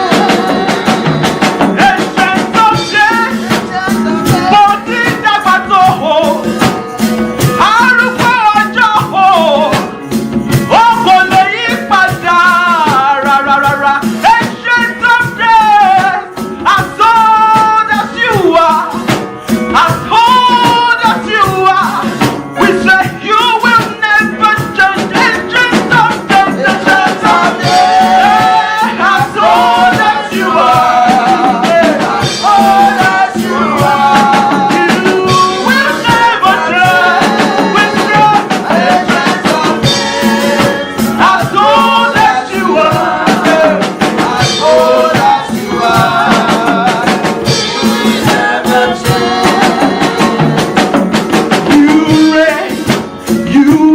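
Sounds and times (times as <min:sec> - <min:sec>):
band accompaniment with steady beat: 0:00.0 - 0:53.9
shaker percussion: 0:00.0 - 0:53.9
voices singing: 0:00.0 - 0:53.9.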